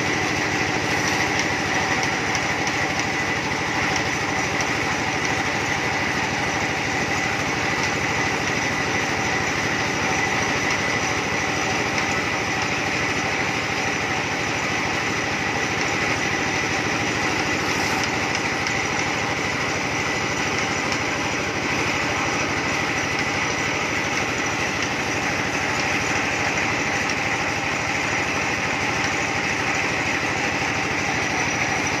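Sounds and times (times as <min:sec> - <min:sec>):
small engine running with whine: 0:00.0 - 0:32.0.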